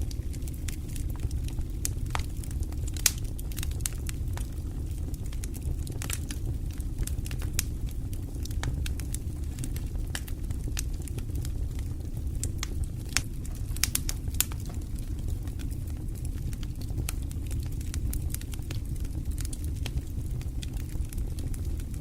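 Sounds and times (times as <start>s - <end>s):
fire crackling and popping: 0.0s - 22.0s
low fire rumble: 0.0s - 22.0s.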